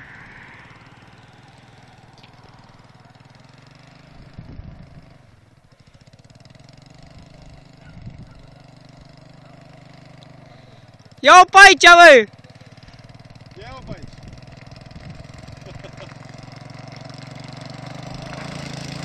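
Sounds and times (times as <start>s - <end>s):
distant atv engine humming: 0.0s - 19.0s.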